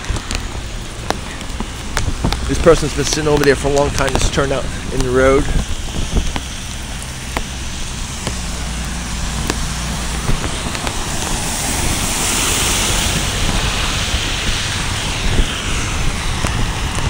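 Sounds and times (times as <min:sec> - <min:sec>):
car engine running low: 0:00.0 - 0:17.0
tyres hissing through water: 0:00.0 - 0:17.0.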